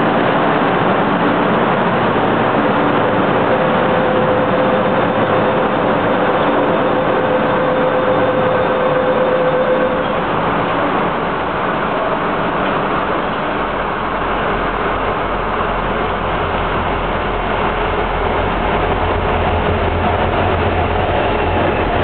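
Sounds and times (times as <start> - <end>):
diesel locomotive engine drone: 0.0 - 22.0
rushing train noise: 0.0 - 22.0.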